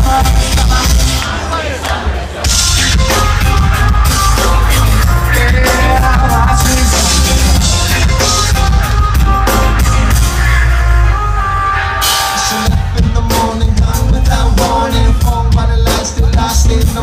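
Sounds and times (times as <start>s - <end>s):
live band playing with drums: 0.0s - 17.0s.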